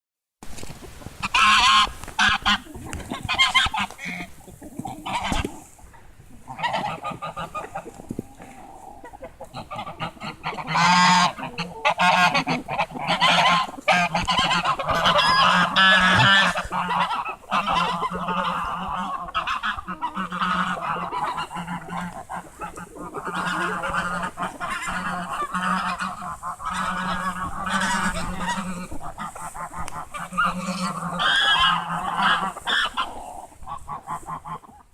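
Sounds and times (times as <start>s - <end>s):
geese honking: 1.2s - 34.9s.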